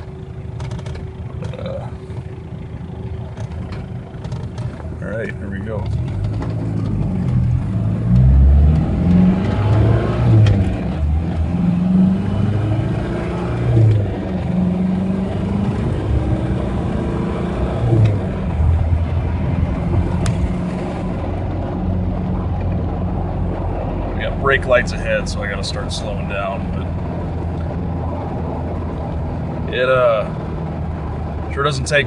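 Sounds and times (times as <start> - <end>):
diesel engine accelerating: 0.0 - 32.0.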